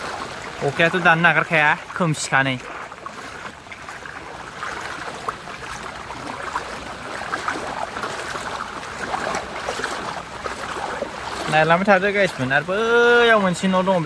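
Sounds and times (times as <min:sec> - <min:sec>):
floodwater flowing: 0:00.0 - 0:14.0
small water splashes: 0:00.0 - 0:14.0.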